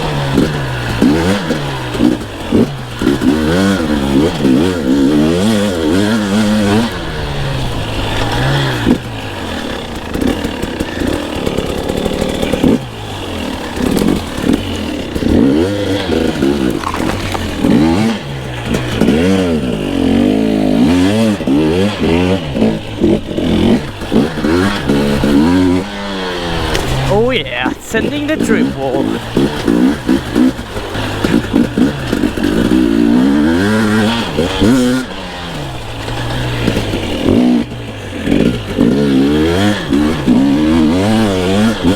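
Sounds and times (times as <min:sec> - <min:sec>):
two-stroke motorbike engine revving: 0:00.0 - 0:41.9.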